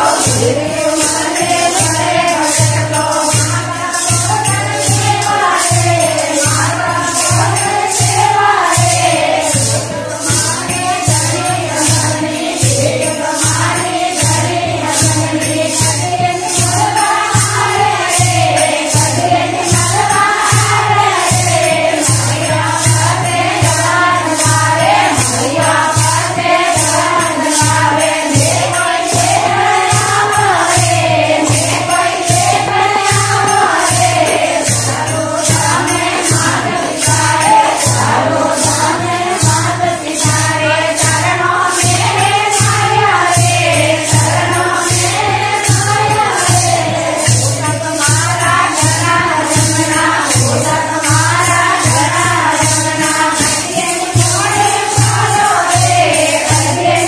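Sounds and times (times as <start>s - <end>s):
hand clappers jingling: 0.0s - 57.0s
women singing together: 0.0s - 57.0s.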